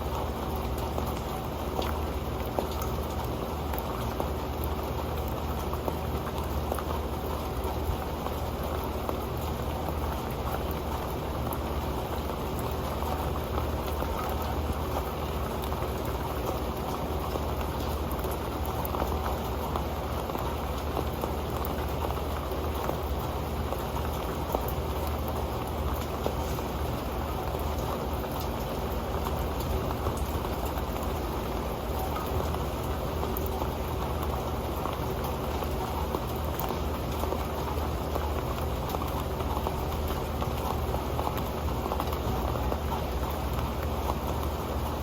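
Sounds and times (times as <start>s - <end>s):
rain on a metal pan: 0.0s - 45.0s.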